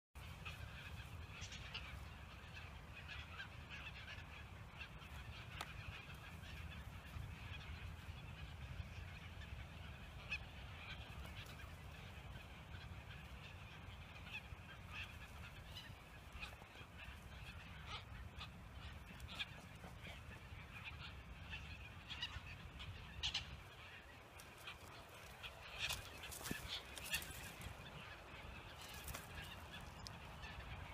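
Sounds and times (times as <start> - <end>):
distant seabirds calling: 0.2 - 30.9.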